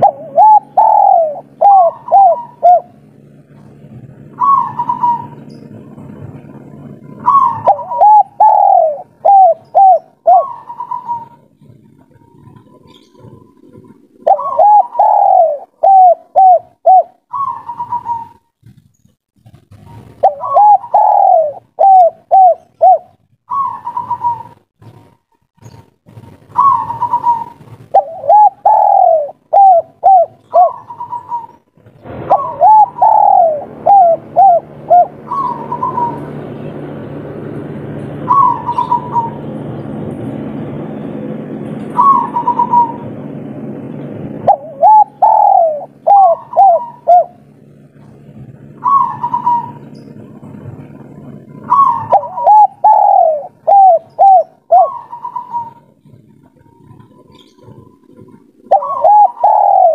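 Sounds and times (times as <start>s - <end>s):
dove cooing: 0.0s - 18.8s, 19.5s - 59.9s
low background hum: 0.0s - 59.9s.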